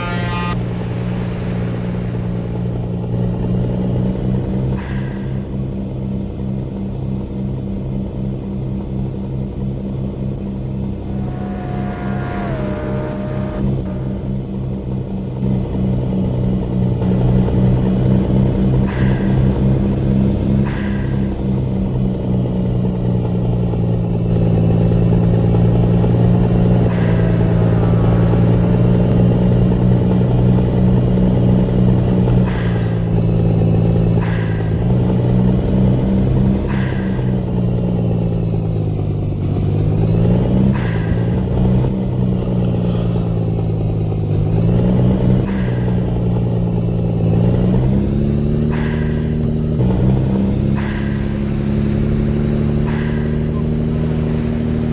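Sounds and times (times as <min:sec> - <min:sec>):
truck engine droning: 0:00.0 - 0:54.9.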